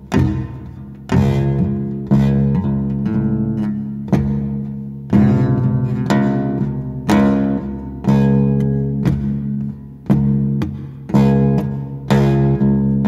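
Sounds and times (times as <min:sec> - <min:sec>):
out-of-tune guitar strumming: 0:00.0 - 0:13.0.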